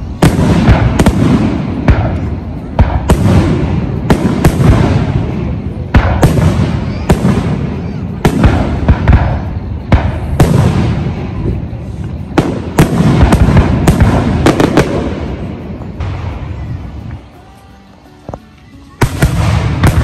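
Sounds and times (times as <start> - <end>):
fireworks bursting with bangs: 0.0 - 20.0.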